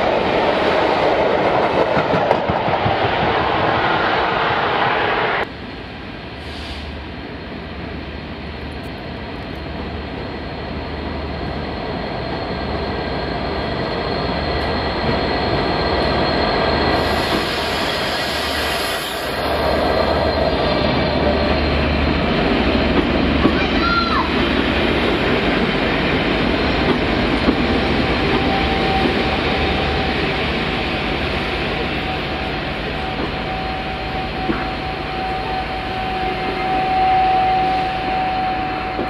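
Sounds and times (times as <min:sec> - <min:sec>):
diesel locomotive engine: 0:00.0 - 0:39.0
train passing: 0:00.0 - 0:39.0.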